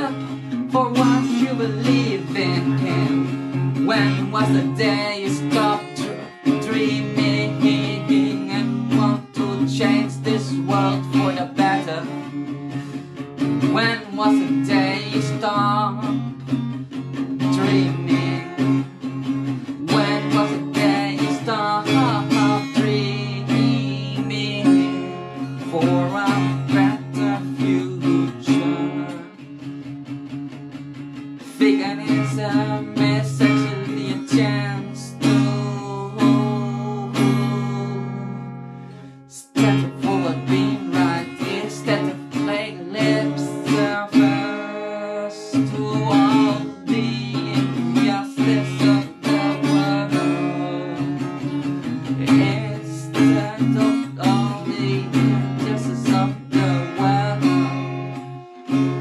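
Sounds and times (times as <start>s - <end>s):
person singing: 0.0s - 29.6s, 31.2s - 59.0s
acoustic guitar strumming: 0.0s - 59.0s.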